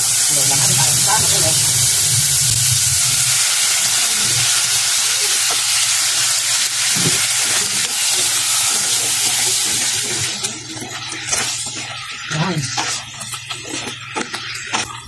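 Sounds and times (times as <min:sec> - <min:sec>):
shrimp sizzling in butter: 0:00.0 - 0:15.0.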